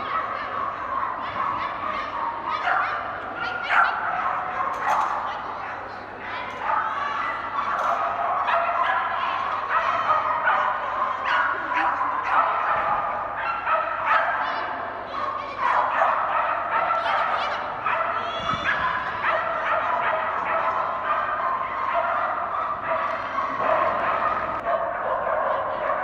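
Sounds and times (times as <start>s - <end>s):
dog barking: 0.0s - 5.3s, 6.6s - 14.6s, 15.2s - 26.0s.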